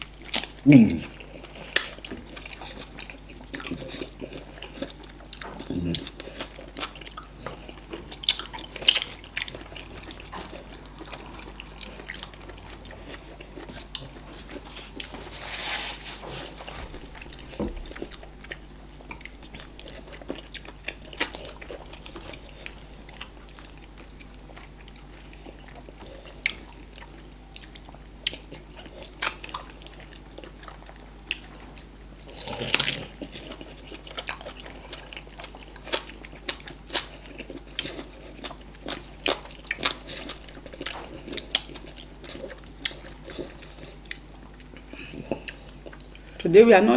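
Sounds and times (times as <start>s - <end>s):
close chewing and biting: 0.0s - 46.9s.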